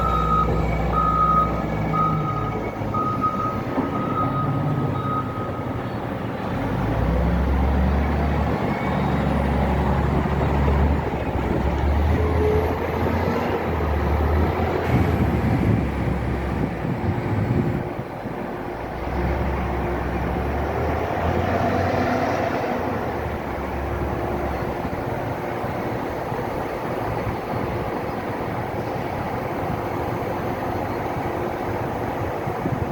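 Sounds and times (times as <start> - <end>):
diesel engine revving under load: 0.0 - 32.9.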